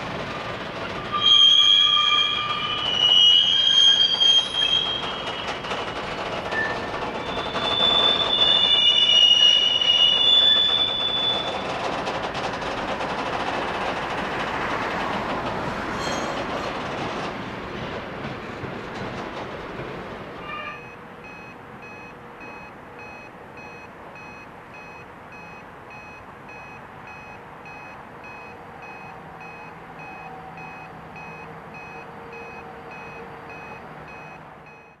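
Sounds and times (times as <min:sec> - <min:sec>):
rail brakes squealing: 0:00.0 - 0:12.3, 0:15.8 - 0:16.9, 0:20.4 - 0:35.0.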